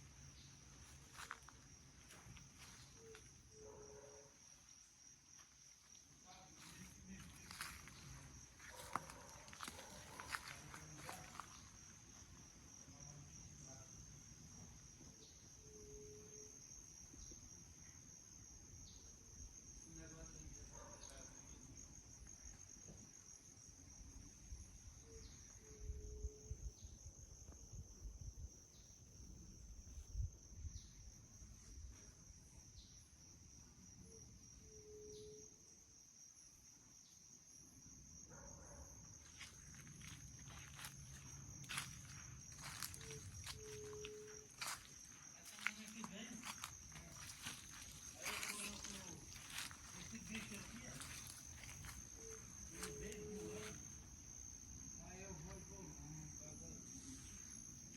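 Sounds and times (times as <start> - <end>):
insects trilling: 0.0 - 57.9.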